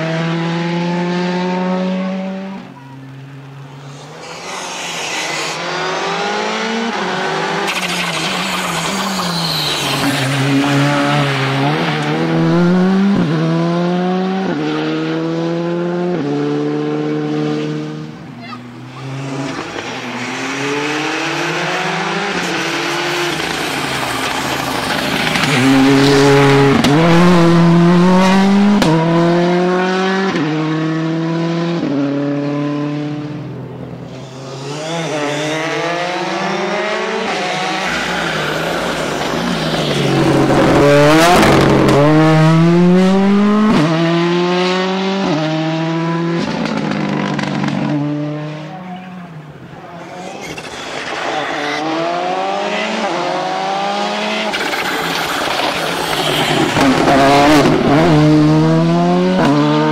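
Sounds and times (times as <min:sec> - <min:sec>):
rally car accelerating hard: 0:00.0 - 0:59.9.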